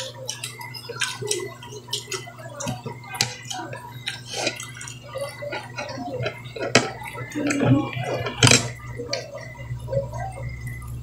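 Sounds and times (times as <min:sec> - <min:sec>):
chewing: 0:00.0 - 0:11.0
steady low hum: 0:00.0 - 0:11.0
utensils clinking on dishes: 0:00.0 - 0:11.0.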